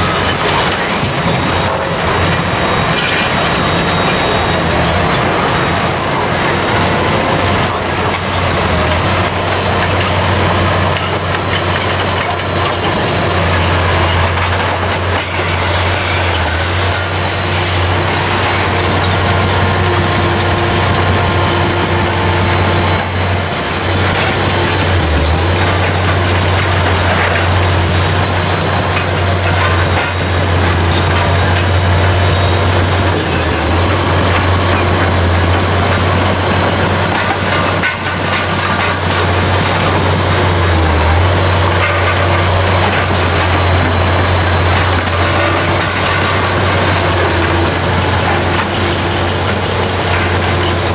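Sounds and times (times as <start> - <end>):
excavator diesel engine droning: 0.0 - 50.9
hydraulic machine noise: 0.0 - 50.9.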